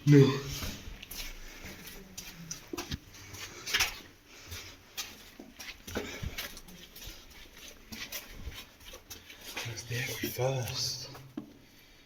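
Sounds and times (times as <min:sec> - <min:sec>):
echoing footsteps: 0:00.0 - 0:11.9.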